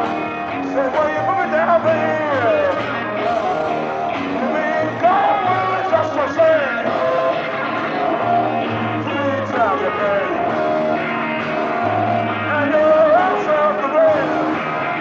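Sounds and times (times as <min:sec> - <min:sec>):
bass notes: 0:00.0 - 0:15.0
drums: 0:00.0 - 0:15.0
electric guitar lead: 0:00.0 - 0:15.0.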